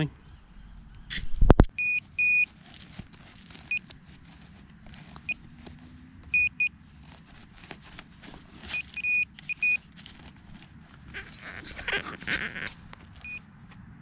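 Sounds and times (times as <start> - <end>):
scraping of dirt: 1.1 - 13.9.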